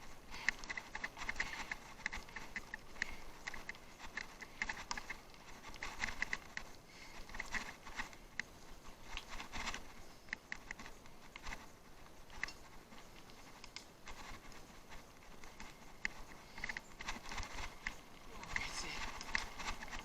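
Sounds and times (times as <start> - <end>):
bicycle rolling over rough ground: 0.0 - 20.0.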